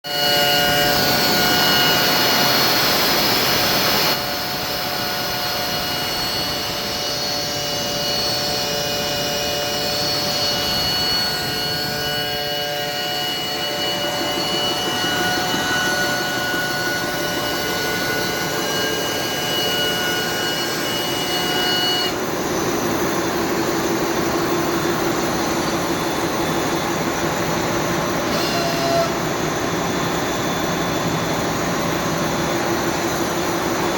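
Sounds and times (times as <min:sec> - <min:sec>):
grinding machine whining drone: 0:00.1 - 0:33.9.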